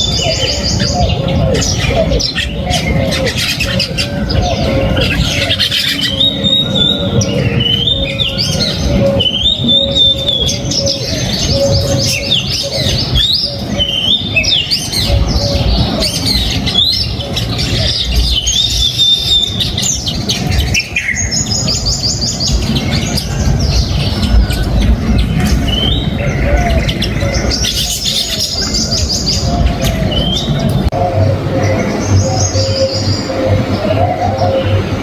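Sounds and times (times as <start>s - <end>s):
bird squawks: 0.0s - 34.9s
small birds chirping: 0.0s - 35.0s
steady low rumble: 0.0s - 35.0s.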